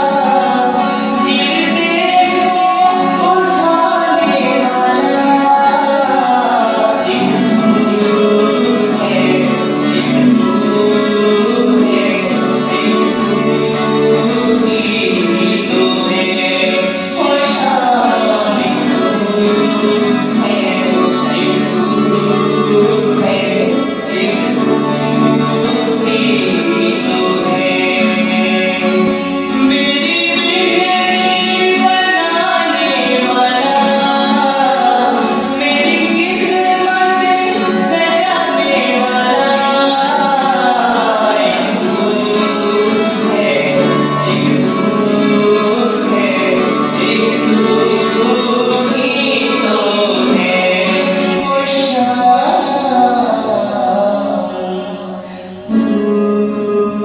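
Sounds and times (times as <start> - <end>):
devotional song melody: 0.0 - 57.0
instrumental accompaniment: 0.0 - 57.0.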